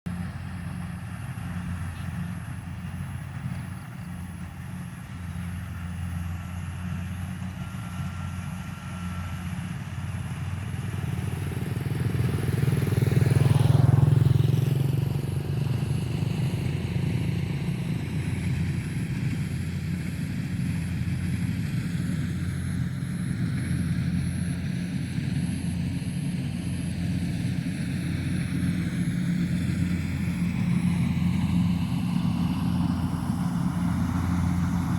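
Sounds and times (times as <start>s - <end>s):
engine running steadily: 0.1s - 34.9s.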